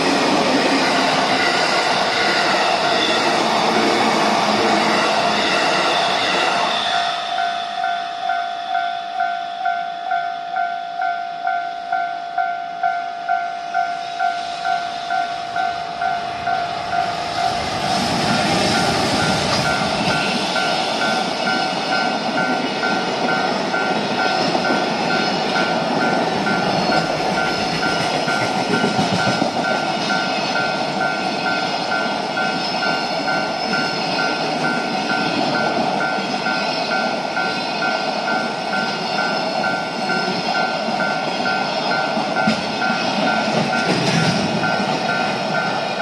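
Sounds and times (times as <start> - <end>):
level-crossing alarm ringing: 0.0 - 46.0
train wheels running on rails: 0.0 - 46.0.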